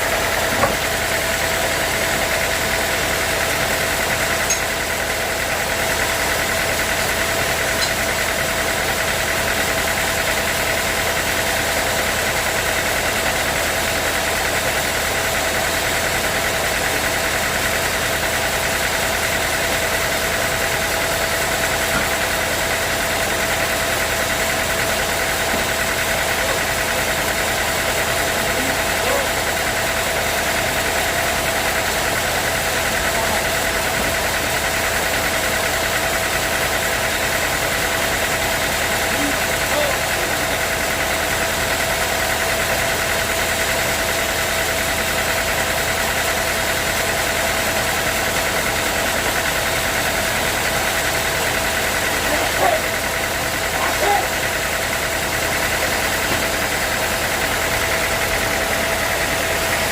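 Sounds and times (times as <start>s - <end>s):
sawmill machinery humming and whining: 0.0s - 59.9s.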